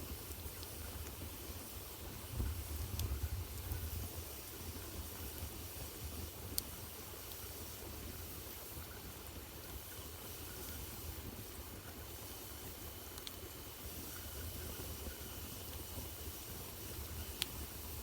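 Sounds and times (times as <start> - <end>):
fire crackle: 0.0 - 18.0
wood fire burning: 0.0 - 18.0.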